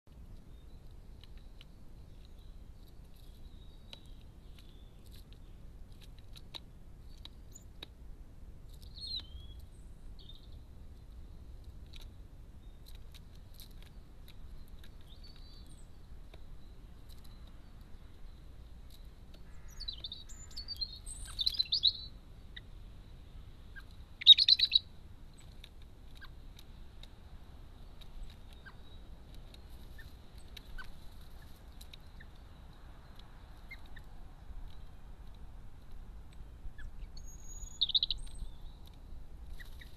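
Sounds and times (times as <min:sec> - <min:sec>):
small birds chirping: 0:00.1 - 0:39.9.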